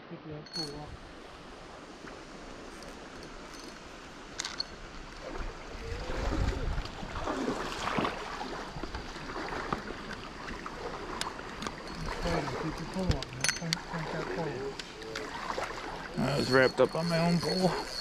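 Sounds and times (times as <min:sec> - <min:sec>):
creek water running over rocks: 0:00.4 - 0:18.0
water splashing: 0:00.5 - 0:18.0.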